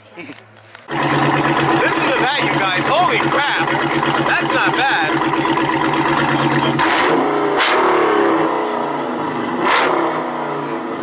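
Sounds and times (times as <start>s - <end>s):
exhaust cracks: 0.8s - 11.0s
car engine revving: 0.9s - 11.0s.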